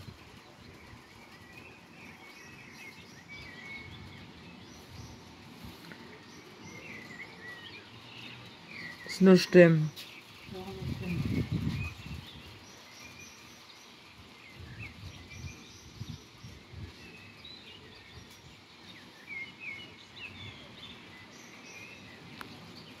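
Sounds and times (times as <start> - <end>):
faint outdoor hiss: 0.0 - 23.0
songbirds chirping and singing: 0.0 - 23.0.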